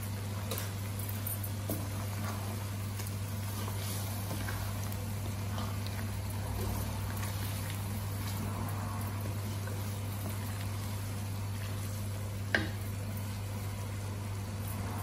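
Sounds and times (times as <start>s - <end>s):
chicken sizzling in a wok: 0.0s - 15.0s
wooden spatula stirring: 0.5s - 14.0s.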